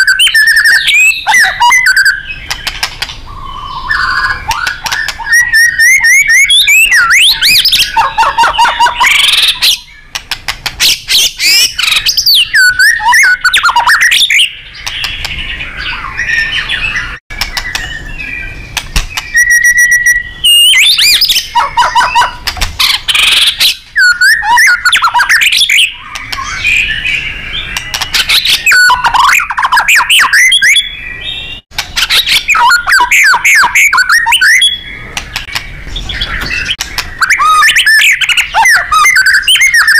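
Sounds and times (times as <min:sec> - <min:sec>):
bird singing whistled phrases: 0:00.0 - 0:02.6, 0:03.3 - 0:10.1, 0:10.8 - 0:35.1, 0:36.0 - 0:39.9
bird twittering: 0:00.0 - 0:39.9.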